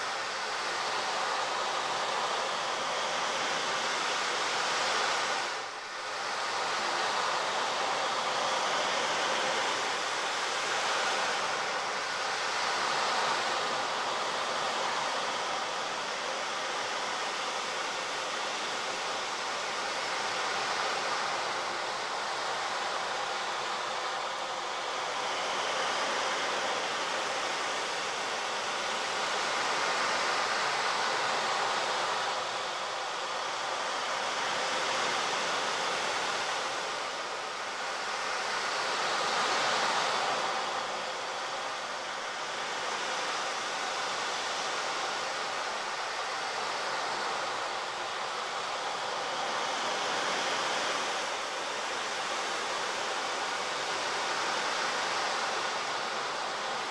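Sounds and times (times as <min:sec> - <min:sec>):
steady rushing noise: 0:00.0 - 0:56.9.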